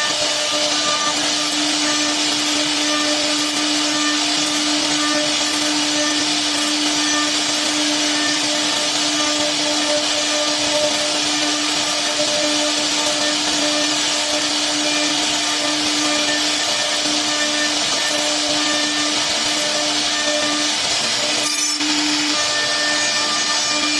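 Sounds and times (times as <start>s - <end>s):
router spindle whining: 0.0s - 23.9s.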